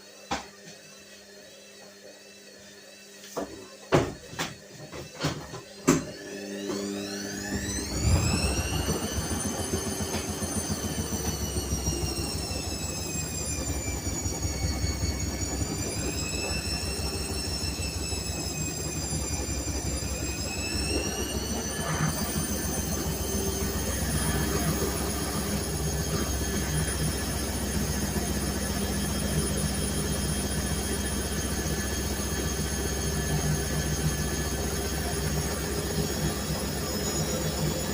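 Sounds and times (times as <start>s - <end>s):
washing machine motor whine: 0.0s - 37.9s.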